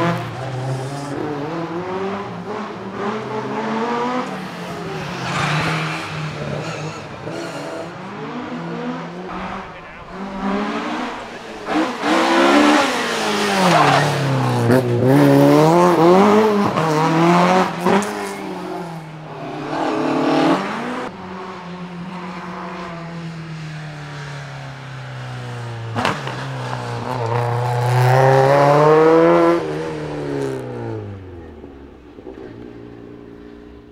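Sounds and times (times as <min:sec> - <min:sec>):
rally car engine at full throttle: 0:00.0 - 0:33.9.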